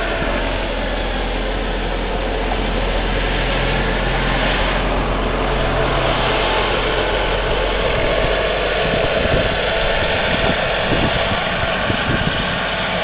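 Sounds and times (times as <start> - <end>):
low rumble: 0.0 - 13.0
model jet engine roaring: 0.0 - 13.0.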